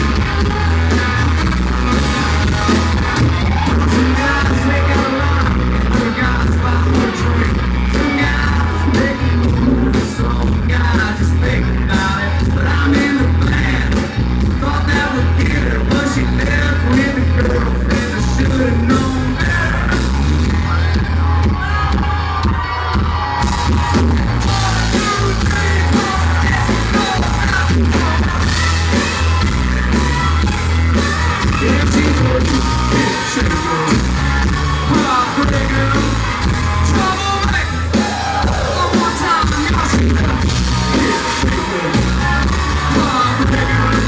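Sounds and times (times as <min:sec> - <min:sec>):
lead vocal singing: 0:00.0 - 0:20.8, 0:23.8 - 0:44.0
live country-rock band: 0:00.0 - 0:44.0.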